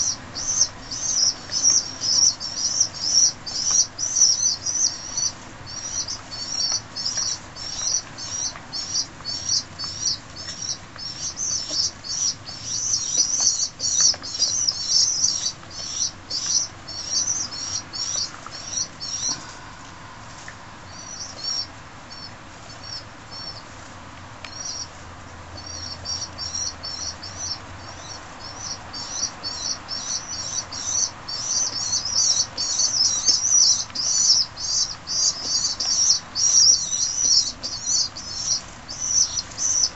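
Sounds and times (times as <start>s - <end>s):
young pigeons peeping: 0.0s - 39.9s.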